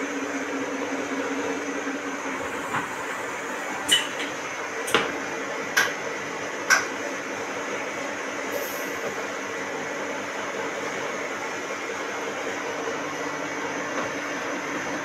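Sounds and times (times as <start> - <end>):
workshop machinery hum: 0.0 - 15.0.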